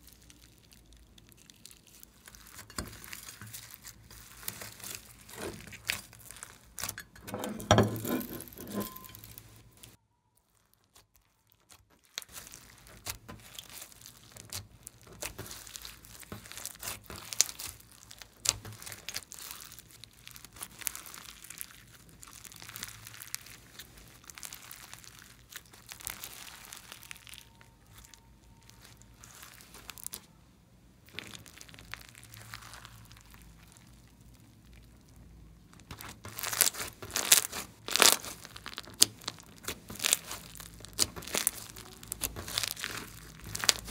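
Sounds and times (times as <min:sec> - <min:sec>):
slime crackling and popping: 0:00.0 - 0:07.2, 0:08.4 - 0:30.4, 0:31.0 - 0:43.9.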